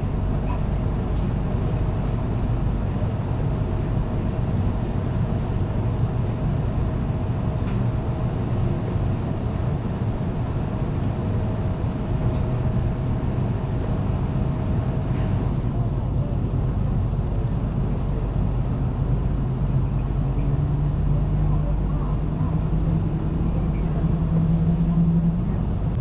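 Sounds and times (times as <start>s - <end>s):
tram rumble: 0.0s - 26.0s.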